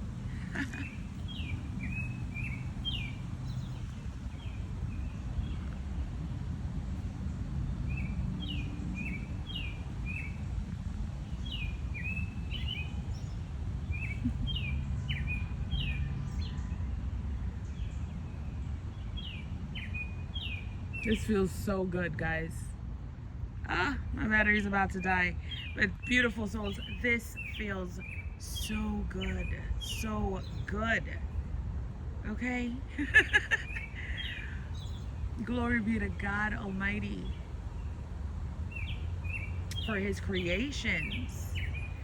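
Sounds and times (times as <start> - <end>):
songbird chirping: 0.0 - 22.7, 23.6 - 31.5, 32.2 - 42.0
low outdoor rumble: 0.0 - 42.0.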